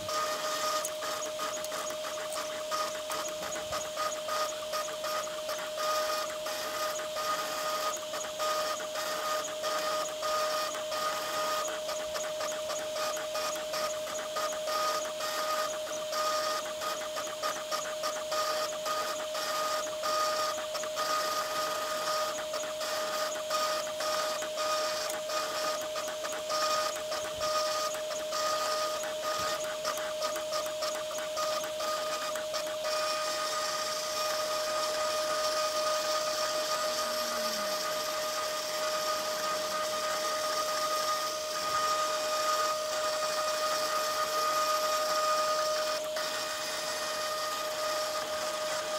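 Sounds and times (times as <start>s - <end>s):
spindle motor whine: 0.0s - 48.9s
stepper motors buzzing: 0.0s - 48.9s.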